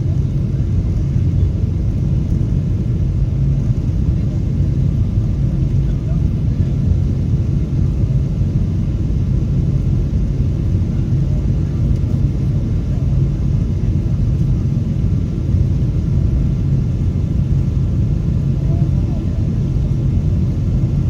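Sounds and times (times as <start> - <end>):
jet engines rumbling in cabin: 0.0 - 21.0.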